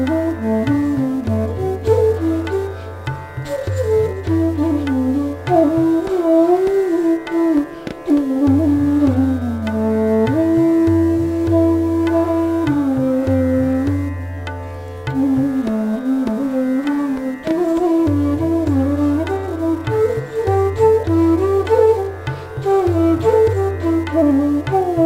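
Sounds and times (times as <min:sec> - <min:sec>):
bamboo flute melody: 0:00.0 - 0:25.0
tabla playing: 0:00.0 - 0:25.0.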